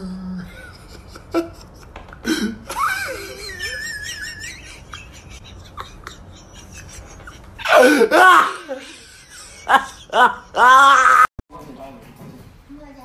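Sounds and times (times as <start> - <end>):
person giggling and laughing: 0.4 - 11.1.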